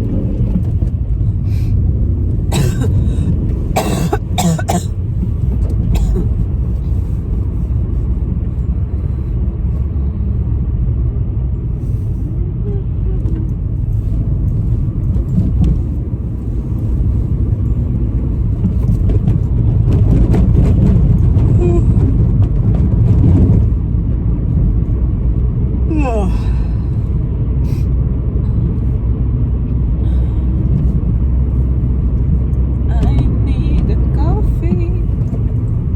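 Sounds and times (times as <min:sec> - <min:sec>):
car cabin road and engine rumble: 0:00.0 - 0:35.9.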